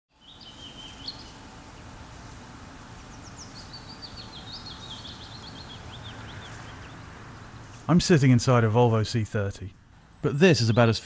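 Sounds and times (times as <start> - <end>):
birds singing: 0.1 - 11.0.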